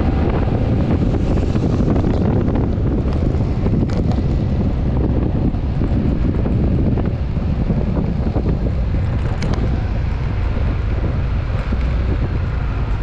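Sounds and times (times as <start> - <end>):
road rumble: 0.0 - 13.0
wind noise on microphone: 0.0 - 13.0.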